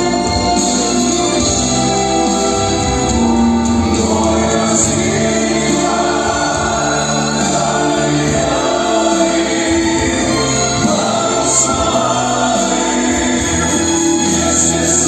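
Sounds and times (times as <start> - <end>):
instrumental backing: 0.0 - 15.0
voices singing in harmony: 0.0 - 15.0.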